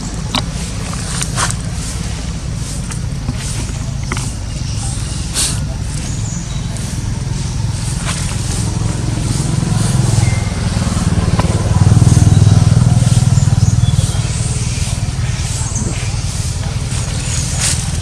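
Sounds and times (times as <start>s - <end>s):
motor engine rumbling: 0.0s - 18.0s.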